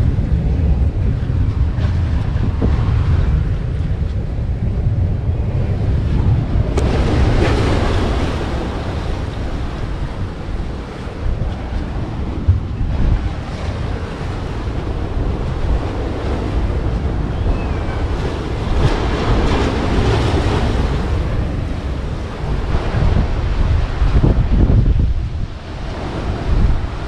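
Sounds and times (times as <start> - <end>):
wind buffeting microphone: 0.0 - 27.0
water rushing: 4.9 - 27.0.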